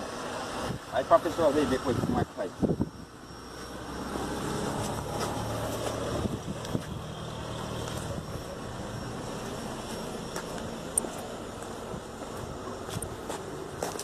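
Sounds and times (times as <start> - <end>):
road noise: 0.0 - 14.0
vehicle engine humming: 0.0 - 14.0
wind: 0.0 - 14.0.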